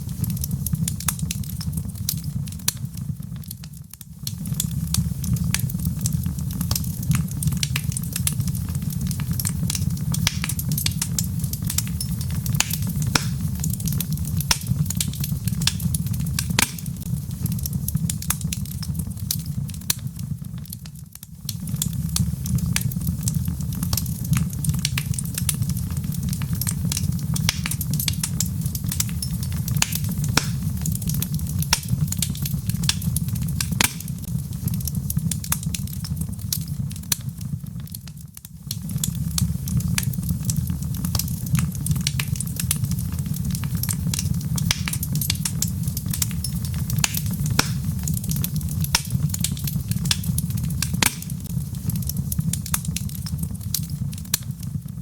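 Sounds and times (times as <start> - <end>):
logs crackling and popping: 0.0 - 55.0
low rumble of flame: 0.0 - 55.0.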